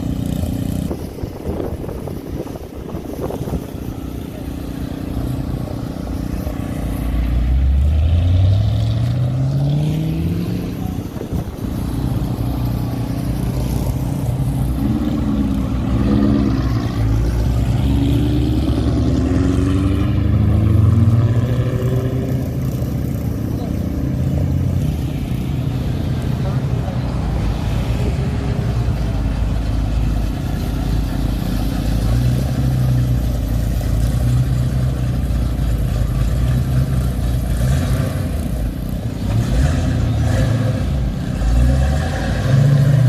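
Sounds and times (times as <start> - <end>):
car engines accelerating: 0.0 - 43.0.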